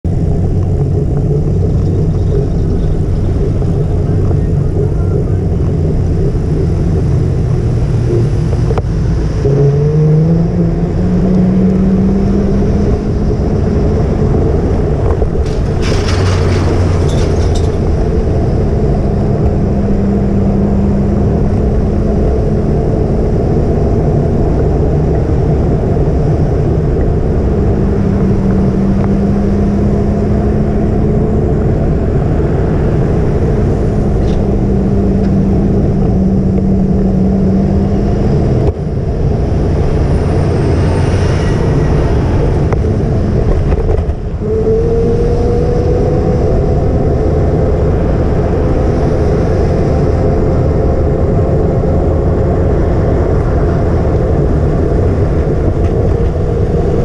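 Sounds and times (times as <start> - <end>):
road noise: 0.0 - 57.0
vehicle engine running: 0.0 - 57.0
wind rumble: 0.0 - 57.0.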